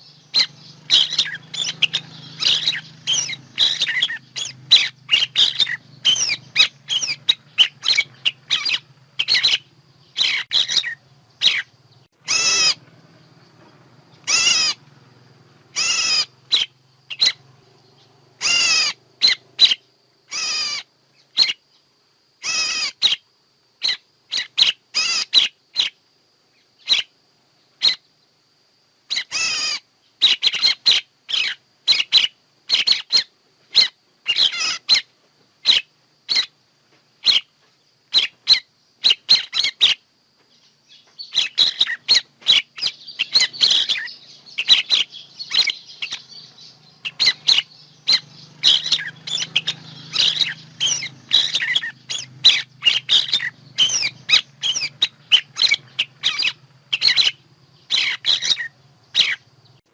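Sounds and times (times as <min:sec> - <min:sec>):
bird chirps and calls: 0:00.0 - 0:26.0, 0:26.6 - 0:27.1, 0:27.7 - 0:28.1, 0:29.1 - 0:36.6, 0:37.2 - 0:59.9.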